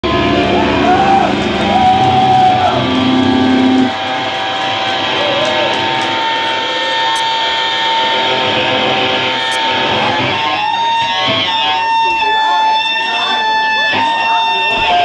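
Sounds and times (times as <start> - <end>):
amp noise: 0.0 - 12.4
distorted electric guitars: 0.0 - 15.0.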